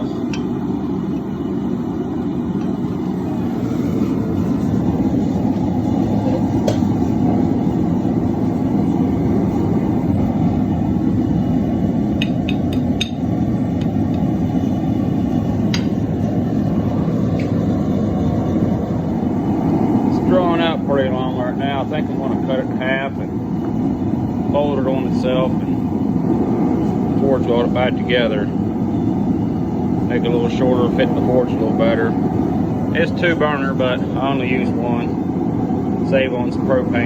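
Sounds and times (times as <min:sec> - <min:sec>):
forge burner roaring: 0:00.0 - 0:37.0.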